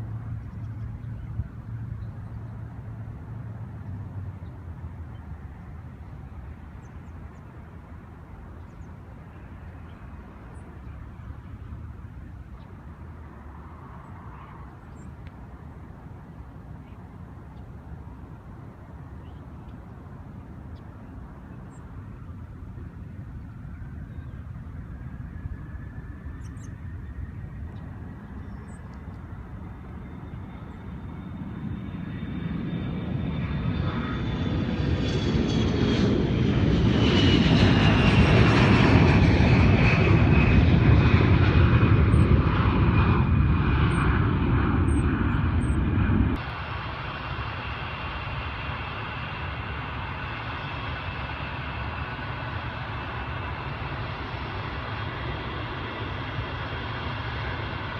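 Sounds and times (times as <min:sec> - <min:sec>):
jet engines passing: 0:00.0 - 0:57.9.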